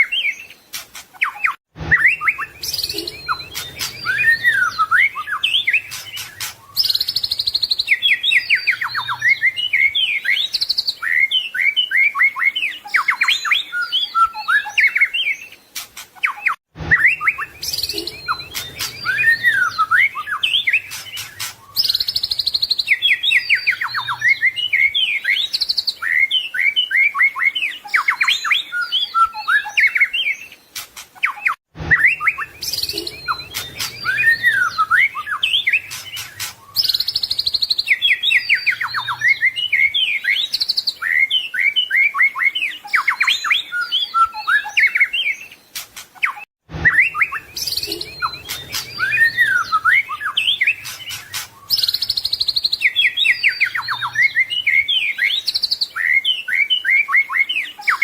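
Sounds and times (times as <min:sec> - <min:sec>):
songbird whistling and trilling: 0:00.0 - 0:58.0.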